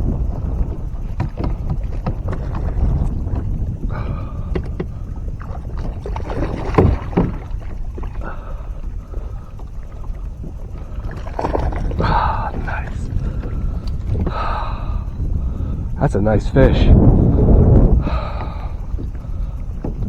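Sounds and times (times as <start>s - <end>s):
water slapping against boat hull: 0.0s - 15.9s, 16.7s - 20.0s
wind rumble on microphone: 0.0s - 20.0s.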